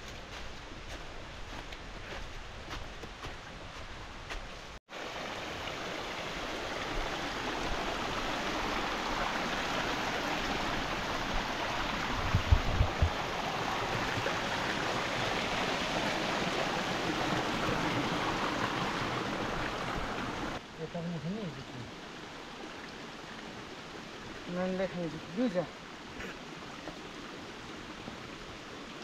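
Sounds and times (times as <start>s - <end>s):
stream rushing over rocks: 4.8s - 29.0s.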